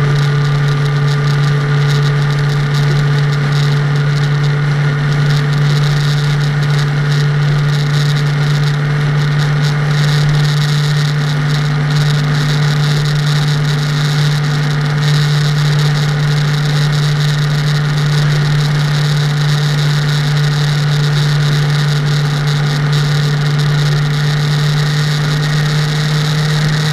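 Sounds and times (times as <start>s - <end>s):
low engine drone: 0.0s - 26.9s
road noise: 0.0s - 26.9s.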